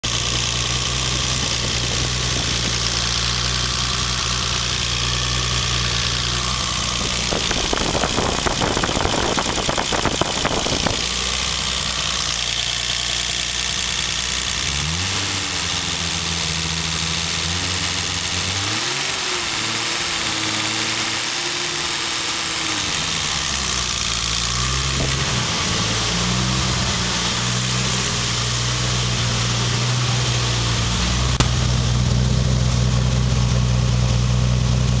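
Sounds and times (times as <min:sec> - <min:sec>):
turbocharged car engine idling and revving: 0:00.0 - 0:35.0.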